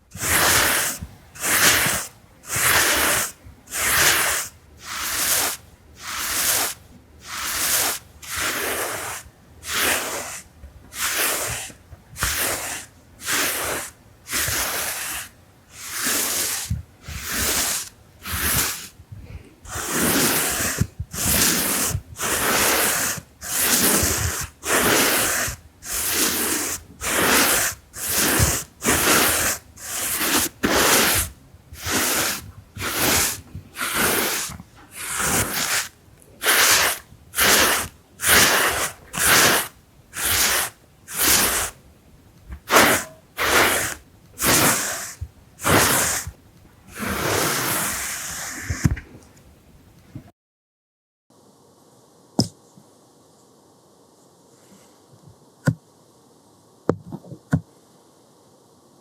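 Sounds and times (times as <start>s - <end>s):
brush swishing across microphone: 0.1s - 41.8s, 42.5s - 49.0s.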